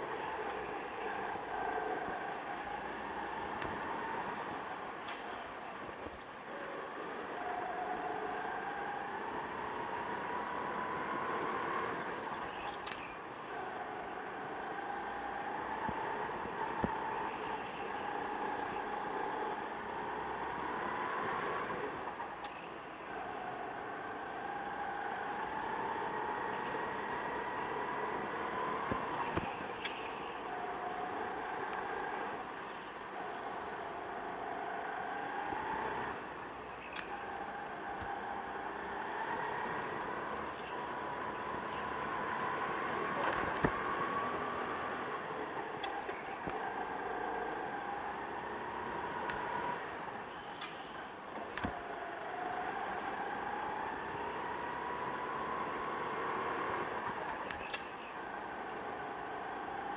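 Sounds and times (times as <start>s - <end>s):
go-kart engine accelerating: 0.0s - 59.9s.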